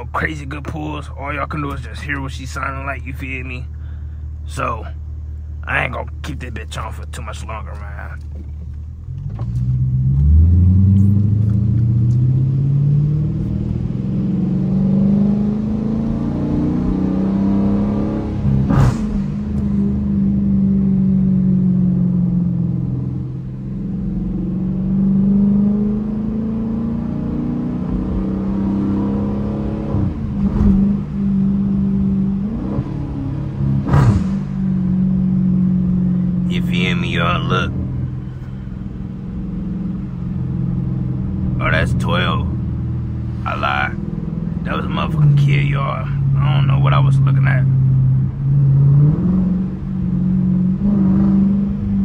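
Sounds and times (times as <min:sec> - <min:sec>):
car engine revving: 0:05.3 - 0:52.0.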